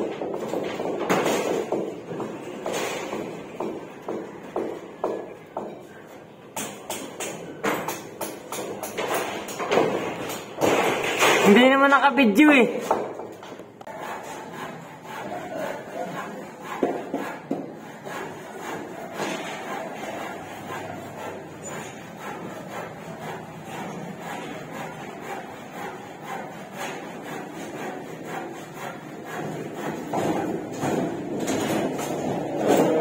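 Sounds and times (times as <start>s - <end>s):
work noise: 0.0s - 33.0s.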